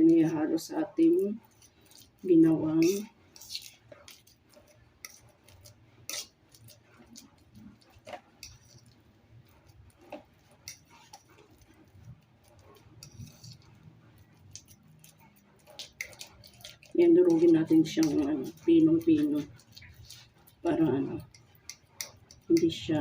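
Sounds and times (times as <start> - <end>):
fork scraping against bowl: 0.0 - 23.0.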